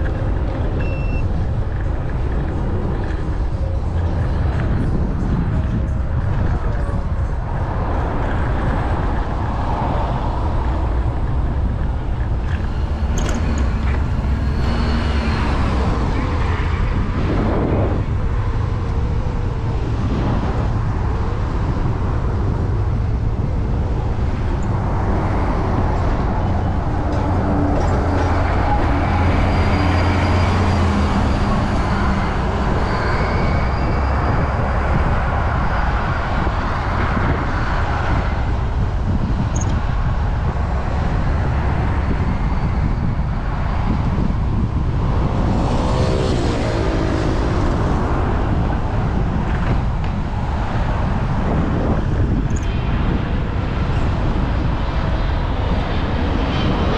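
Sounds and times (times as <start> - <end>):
bus engine hum: 0.0 - 56.9
road rumble: 0.0 - 56.9
vehicle engines passing: 0.0 - 56.9
wind rush: 0.0 - 56.9.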